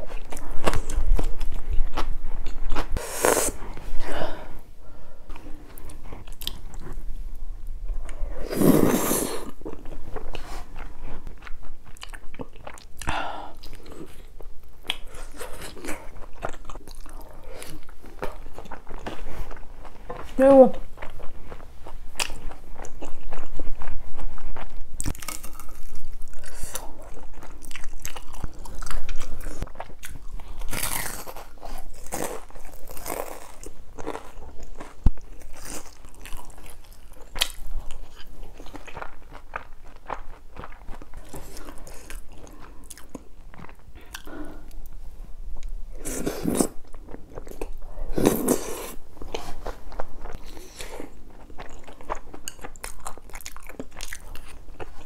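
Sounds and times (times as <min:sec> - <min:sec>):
chewing and crunchy biting: 0:07.9 - 0:20.2, 0:21.0 - 0:44.8, 0:45.6 - 0:55.0.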